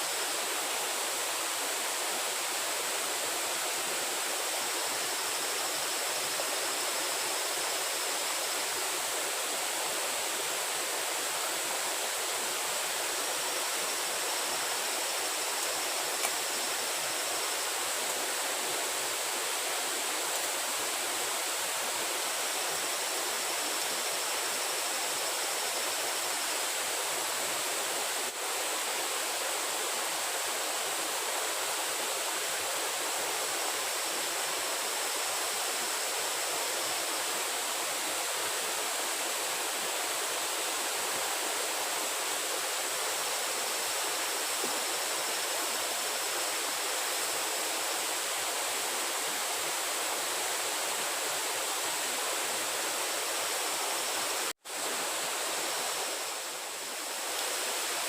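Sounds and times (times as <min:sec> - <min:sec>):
faint high whine: 0:00.0 - 0:58.0
running water rushing: 0:00.0 - 0:58.0.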